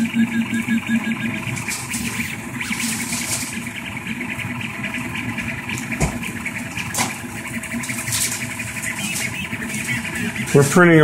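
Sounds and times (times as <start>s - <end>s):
cooling fans humming: 0.0s - 11.0s
stepper motors buzzing and whining: 0.0s - 11.0s.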